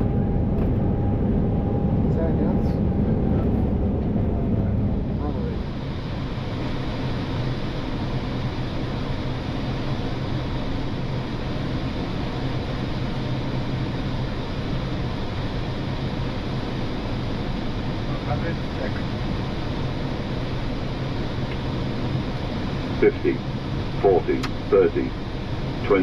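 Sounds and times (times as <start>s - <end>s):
aircraft cockpit hum and air rush: 0.0s - 26.0s.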